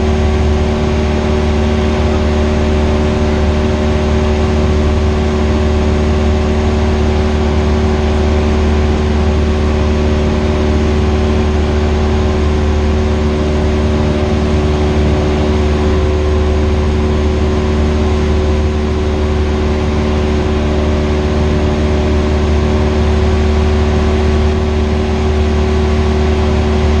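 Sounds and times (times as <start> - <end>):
aircraft engine and propeller drone: 0.0 - 27.0.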